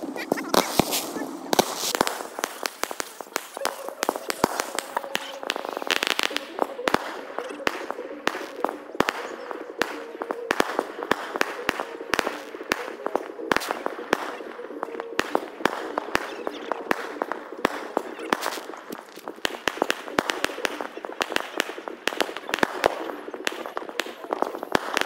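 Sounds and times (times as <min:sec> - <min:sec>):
fireworks popping and banging: 0:00.0 - 0:25.0.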